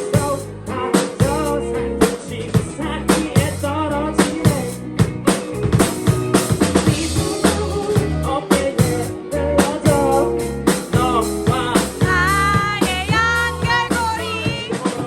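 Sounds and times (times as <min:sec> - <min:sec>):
rock band playing live: 0:00.0 - 0:15.0
drum kit hits: 0:01.0 - 0:15.0.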